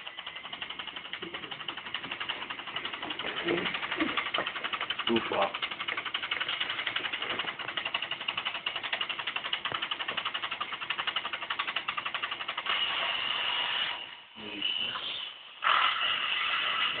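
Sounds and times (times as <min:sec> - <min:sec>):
robot motors clicking and whirring: 0:00.0 - 0:14.2.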